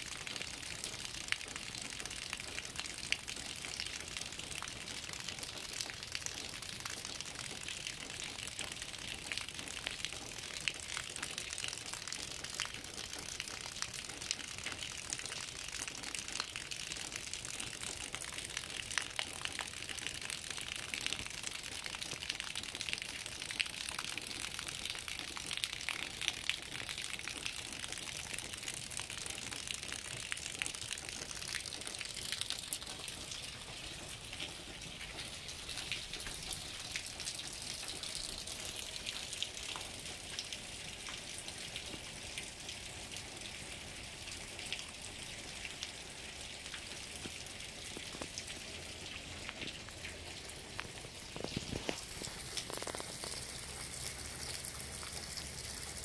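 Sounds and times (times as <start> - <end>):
raindrop ticks: 0.0 - 56.0
steady rain falling: 0.0 - 56.0.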